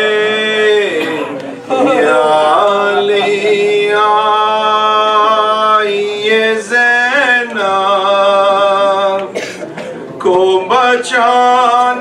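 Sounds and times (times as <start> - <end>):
man chanting a lament: 0.0 - 9.3, 10.2 - 12.0.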